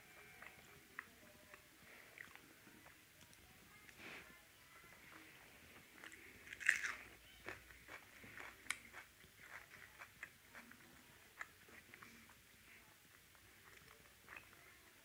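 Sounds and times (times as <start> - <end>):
close chewing and mouth sounds: 0.0 - 15.0.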